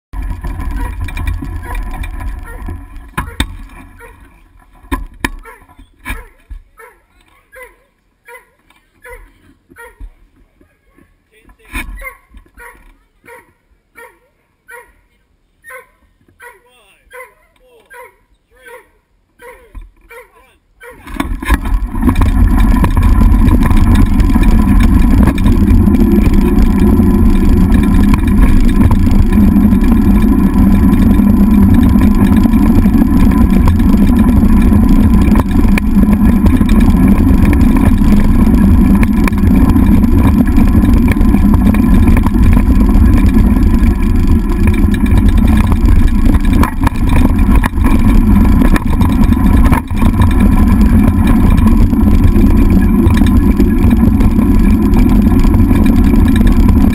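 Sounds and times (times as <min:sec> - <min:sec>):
scooter wheels rumbling on gravel: 0:00.0 - 0:14.1, 0:19.4 - 0:56.9.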